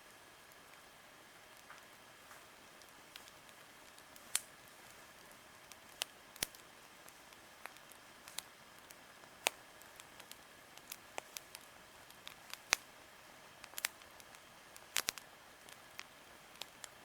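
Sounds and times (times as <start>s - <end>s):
faint steady hiss: 0.0s - 17.0s
campfire crackling and popping: 0.4s - 17.0s.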